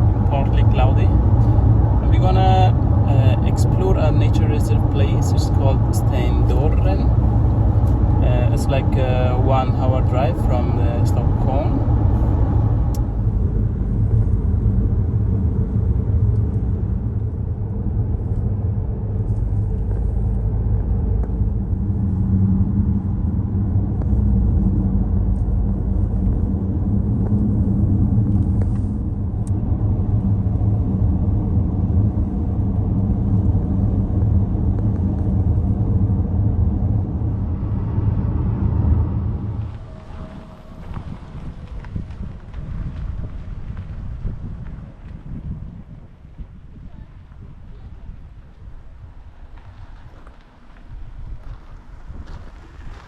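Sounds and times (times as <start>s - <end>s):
car driving low rumble: 0.0s - 53.0s.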